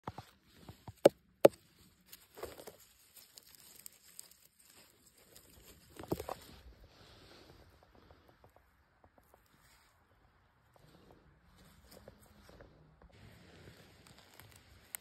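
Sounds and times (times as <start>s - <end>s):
grass and leaf litter crackling: 0.2s - 8.2s, 10.8s - 15.0s.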